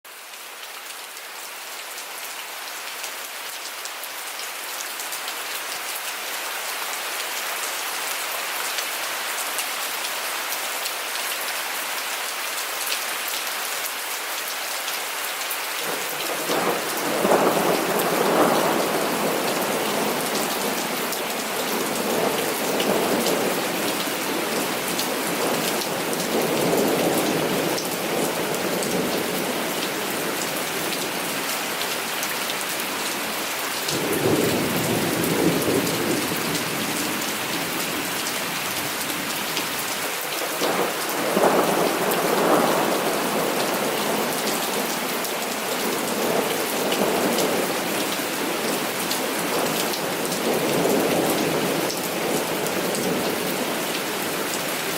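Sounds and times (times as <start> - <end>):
heavy rain falling: 0.1 - 54.9.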